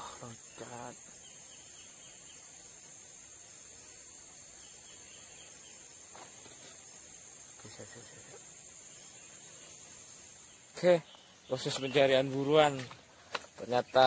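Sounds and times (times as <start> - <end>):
insects droning in trees: 0.0 - 14.0.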